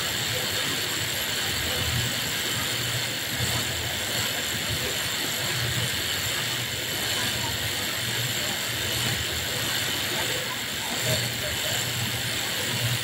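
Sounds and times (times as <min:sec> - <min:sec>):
factory machine hum and hiss: 0:00.0 - 0:13.0.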